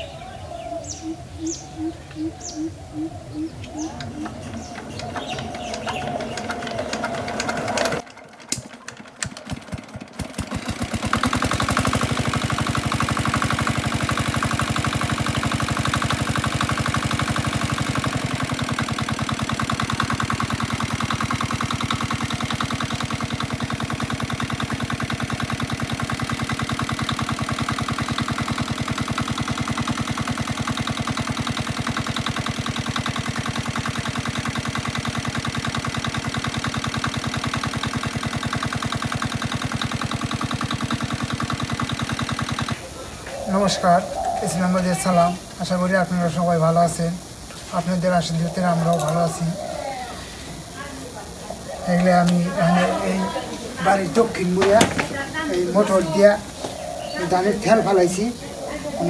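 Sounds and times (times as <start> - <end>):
diesel engine chugging: 0.0 - 8.4, 9.0 - 59.0.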